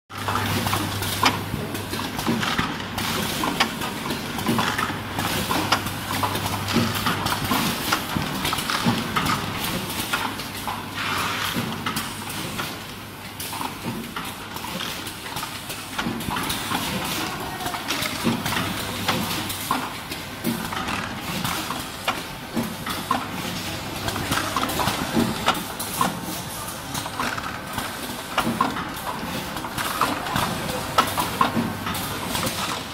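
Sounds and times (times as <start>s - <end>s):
conveyors and machinery running: 0.1s - 32.9s.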